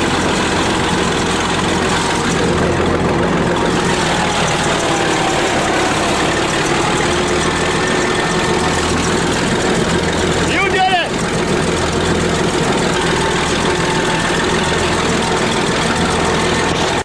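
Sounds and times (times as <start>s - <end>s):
bulldozer engine running: 0.0s - 17.0s.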